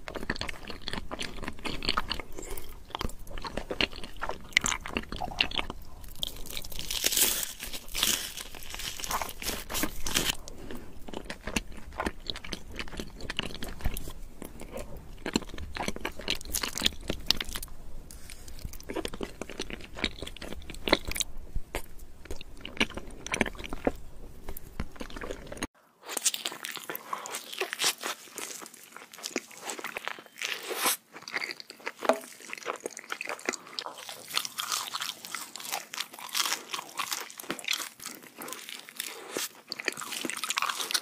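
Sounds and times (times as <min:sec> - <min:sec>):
crunching and chewing food: 0:00.0 - 0:41.0.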